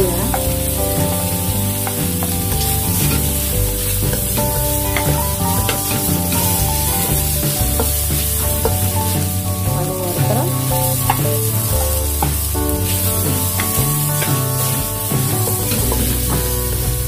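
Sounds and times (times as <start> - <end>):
background music with held notes: 0.0 - 17.0
oil sizzling in a wok: 0.1 - 9.7, 10.4 - 17.0.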